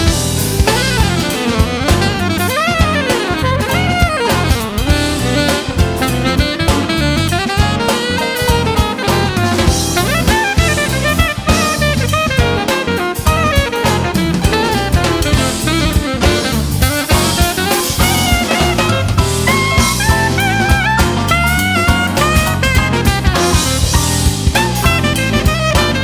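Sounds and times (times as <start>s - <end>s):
drum kit with cymbals: 0.0s - 26.0s
saxophone melody: 0.0s - 26.0s.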